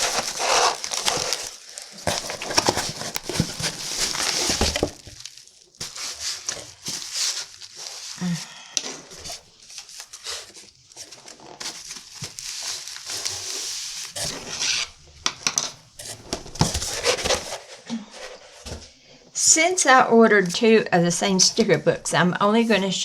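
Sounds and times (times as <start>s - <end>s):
packaging rustling and crinkling: 0.0s - 18.8s.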